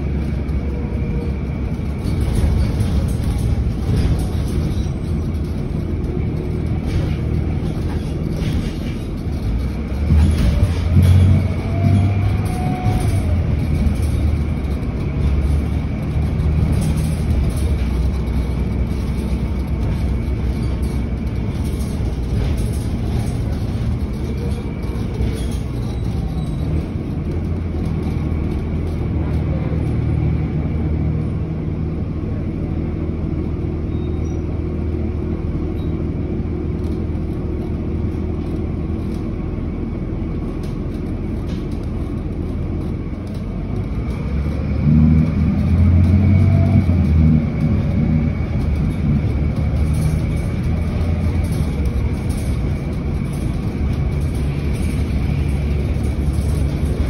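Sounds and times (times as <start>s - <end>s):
knocks and rattles: 0.0s - 30.0s, 40.2s - 57.0s
bus engine and road rumble: 0.0s - 57.0s.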